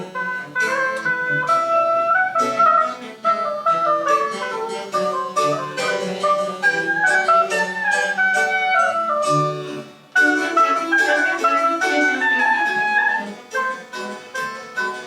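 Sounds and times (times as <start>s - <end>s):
flute melody: 0.0s - 15.0s
plucked strings: 0.0s - 15.0s.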